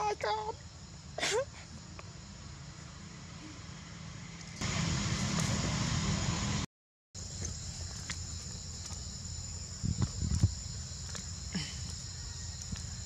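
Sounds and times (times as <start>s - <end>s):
high drone of insects: 0.0s - 13.0s.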